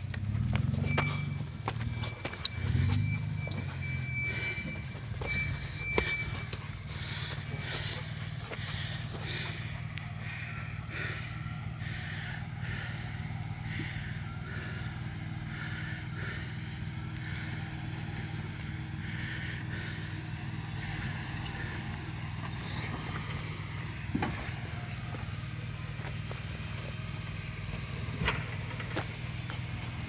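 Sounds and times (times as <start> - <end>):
engine running at low revs: 0.0 - 30.0.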